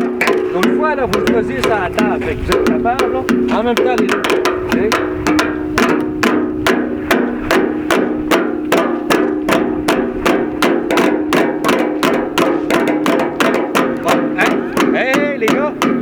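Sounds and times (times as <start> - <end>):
rapid wooden knocks: 0.0 - 16.0.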